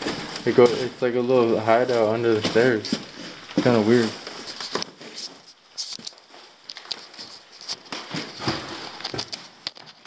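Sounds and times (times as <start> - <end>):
footsteps crunching on debris: 0.0 - 10.0
steady high hiss: 0.0 - 10.0.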